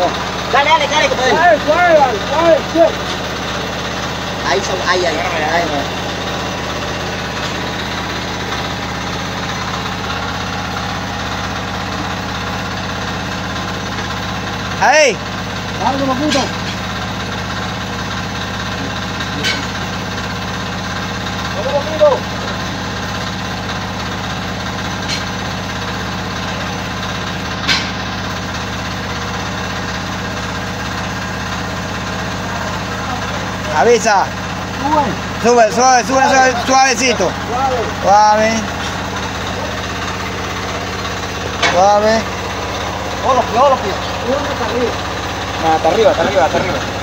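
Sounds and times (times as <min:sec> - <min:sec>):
engine droning steadily: 0:00.0 - 0:47.0.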